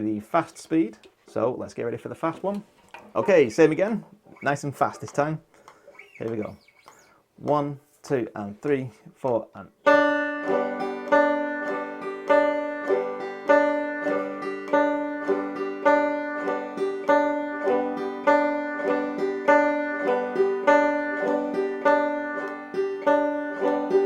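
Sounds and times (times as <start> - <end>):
banjo strumming: 0.0 - 6.6, 9.3 - 24.0.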